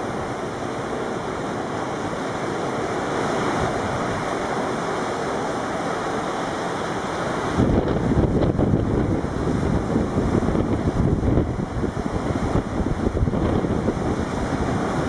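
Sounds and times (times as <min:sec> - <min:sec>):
heavy surf breaking: 0:00.0 - 0:15.0.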